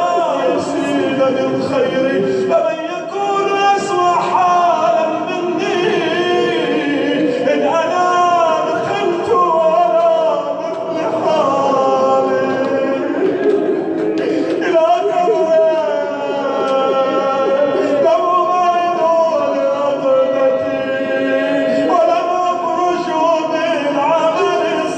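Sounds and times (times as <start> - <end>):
man chanting melodically: 0.0 - 24.9.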